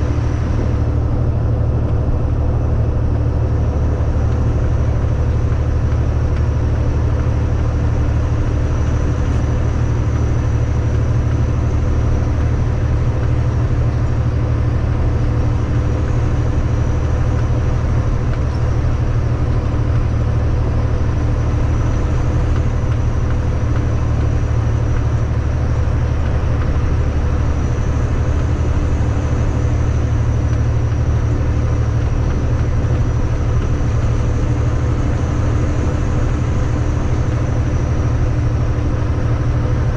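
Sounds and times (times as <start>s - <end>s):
truck engine and road drone: 0.0s - 39.9s.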